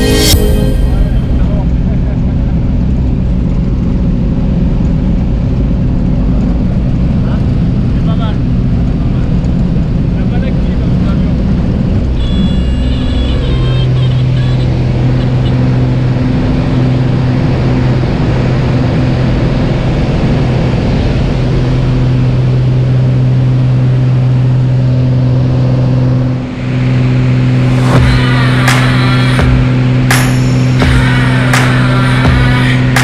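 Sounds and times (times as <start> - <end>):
light plane engine and propeller droning: 0.0 - 33.0.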